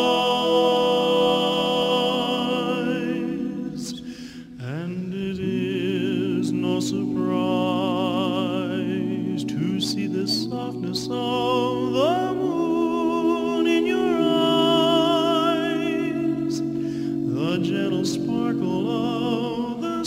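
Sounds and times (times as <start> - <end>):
slow music of long held notes: 0.0 - 20.0.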